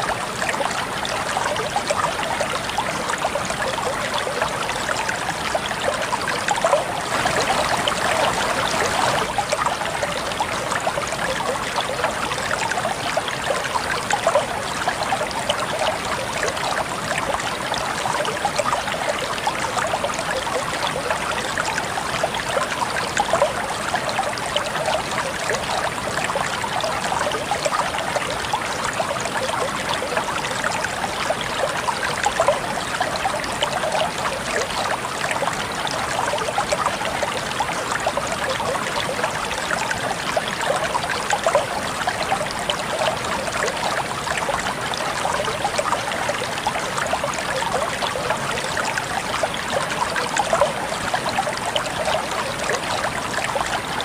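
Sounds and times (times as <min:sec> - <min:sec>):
water flowing in a stream: 0:00.0 - 0:54.0.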